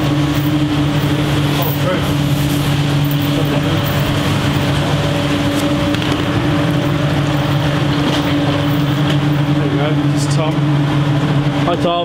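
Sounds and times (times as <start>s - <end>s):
extraction fans humming: 0.0s - 12.0s.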